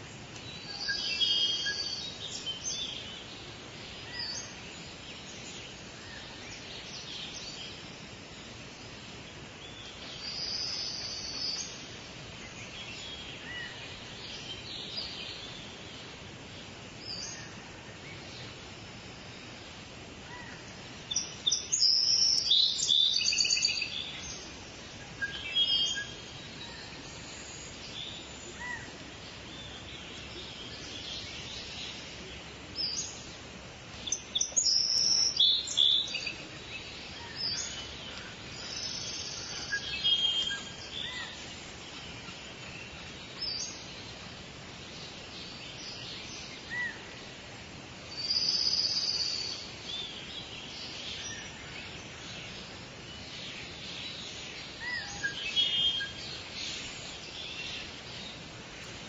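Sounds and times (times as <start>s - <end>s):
songbirds singing and chirping: 0.0s - 59.0s
steady background hiss: 0.0s - 59.0s.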